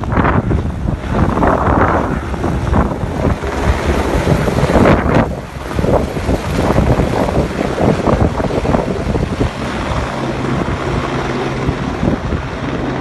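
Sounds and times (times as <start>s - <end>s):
helicopter rotor noise: 0.0s - 13.0s
wind buffeting on microphone: 0.0s - 13.0s.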